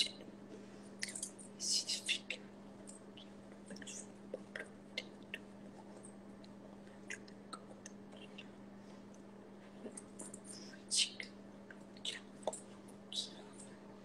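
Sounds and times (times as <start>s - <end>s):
low electrical hum: 0.0s - 14.0s
mouth clicks and lip smacks: 2.3s - 13.7s.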